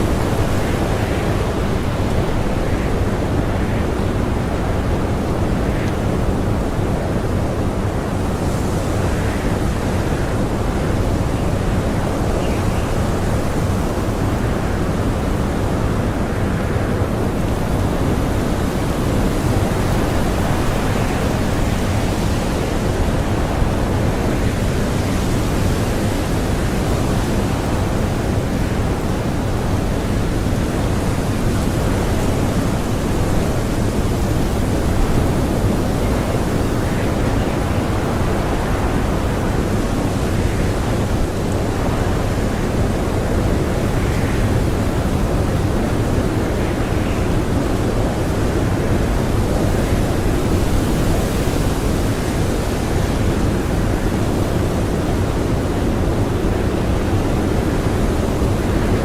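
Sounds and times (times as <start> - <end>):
blizzard wind blowing hard: 0.0 - 59.0.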